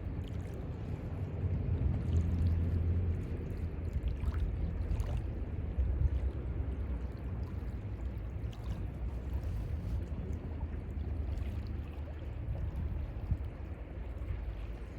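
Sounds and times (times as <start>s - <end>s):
sea water lapping at shore: 0.0s - 14.9s.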